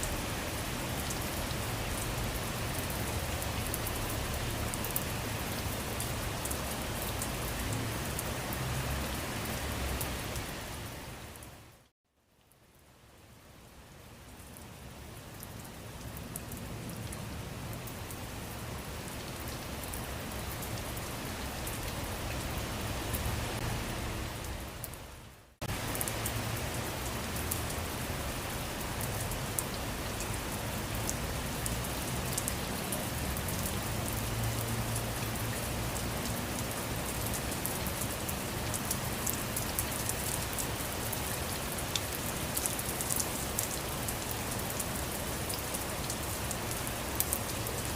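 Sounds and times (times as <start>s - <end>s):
steady rain with ticking drops: 0.0s - 47.9s.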